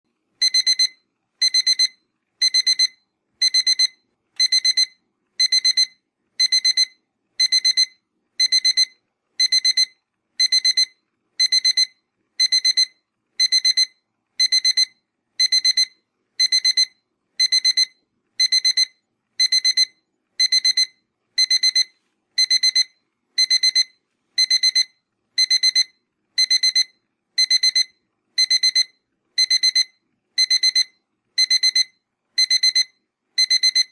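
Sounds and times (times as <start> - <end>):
electronic alarm beeping: 0.4 - 33.9.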